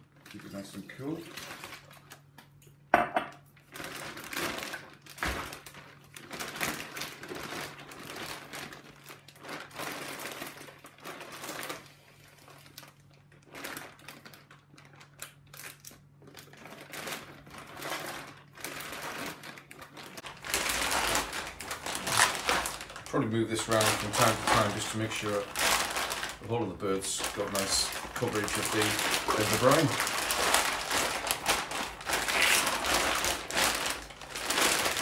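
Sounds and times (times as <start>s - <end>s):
plastic bag crinkling: 0.0s - 2.4s, 3.6s - 35.0s.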